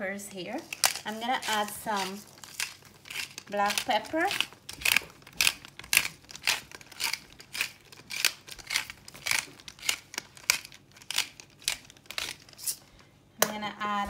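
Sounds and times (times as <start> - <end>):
pepper grinder grinding: 0.5 - 12.8.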